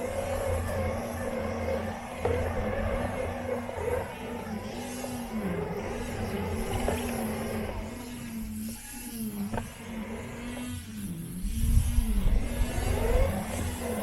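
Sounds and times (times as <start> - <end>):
robot lawn mower motor hum: 0.0 - 14.0.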